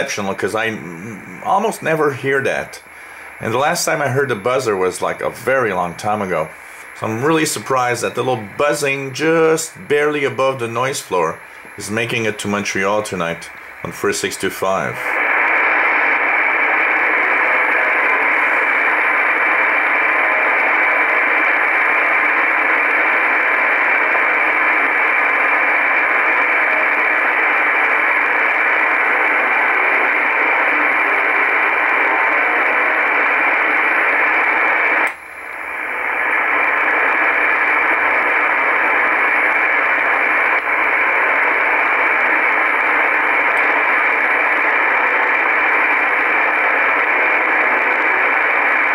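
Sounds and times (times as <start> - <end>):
radio static hiss: 0.0 - 48.9.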